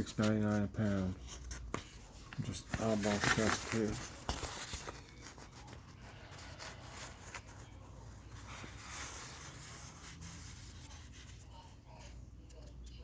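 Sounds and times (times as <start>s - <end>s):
paper rustling: 0.0s - 12.1s.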